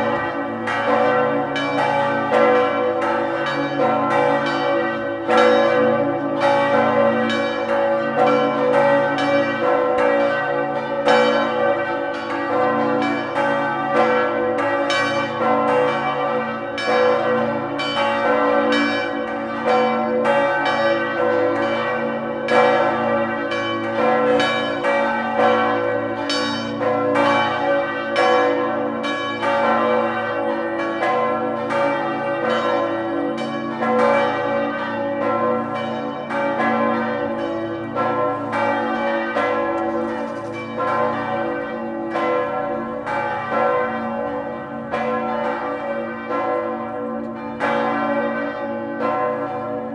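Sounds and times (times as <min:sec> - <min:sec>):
church bells ringing: 0:00.0 - 0:49.9.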